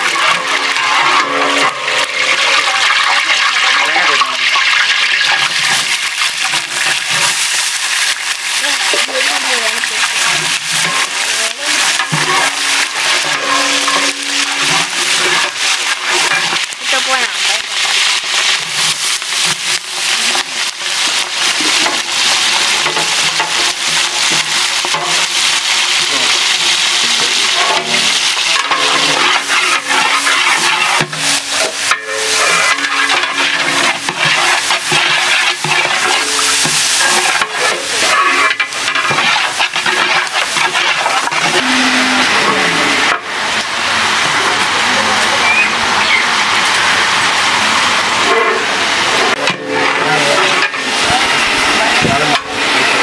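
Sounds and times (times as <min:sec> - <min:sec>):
ladle scraping metal pot: 0:00.0 - 0:43.4, 0:48.3 - 0:53.0
shallots sizzling in hot oil: 0:00.0 - 0:53.0.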